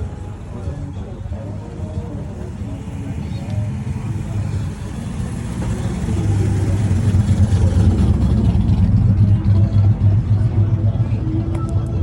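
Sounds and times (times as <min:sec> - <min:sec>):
car engine running: 0:01.0 - 0:12.0.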